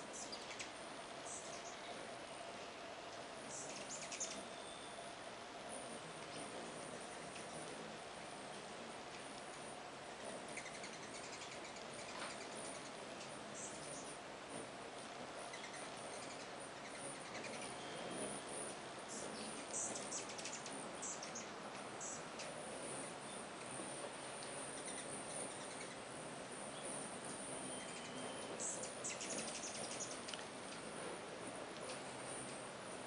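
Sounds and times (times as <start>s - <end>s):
hummingbird wings buzzing: 0.0s - 33.0s.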